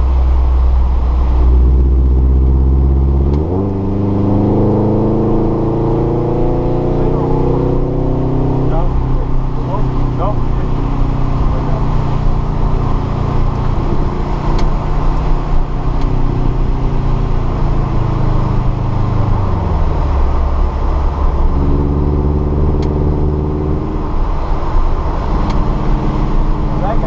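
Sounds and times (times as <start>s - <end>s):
car engine running: 0.0s - 27.0s
road and tyre noise: 0.0s - 27.0s.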